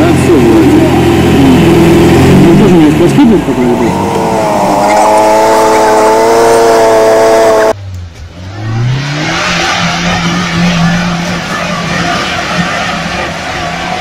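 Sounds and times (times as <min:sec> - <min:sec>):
engine at high revs: 0:00.0 - 0:14.0
engine revving and running hard: 0:00.0 - 0:14.0
rushing noise: 0:00.9 - 0:14.0.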